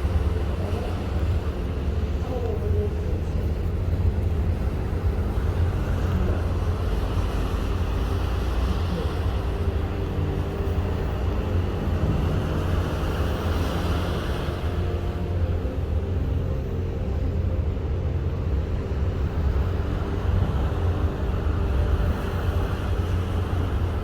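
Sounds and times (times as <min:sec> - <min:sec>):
ship engine low rumble: 0:00.0 - 0:24.0
wind and water rushing: 0:00.0 - 0:24.0.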